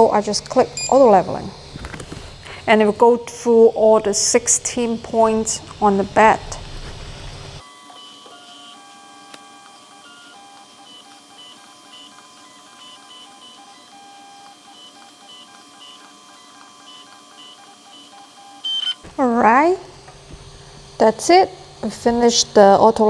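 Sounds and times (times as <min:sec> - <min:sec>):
stepper motors singing: 0:00.1 - 0:23.0.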